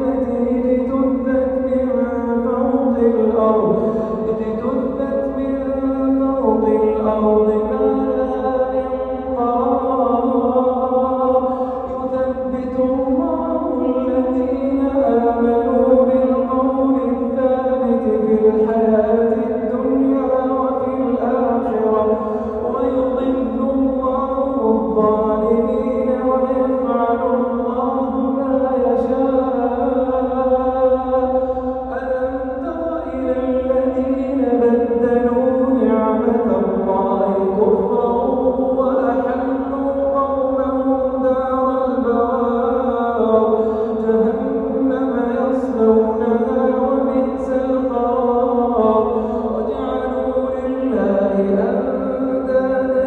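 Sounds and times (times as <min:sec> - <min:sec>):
man chanting melodically: 0:00.0 - 0:53.0.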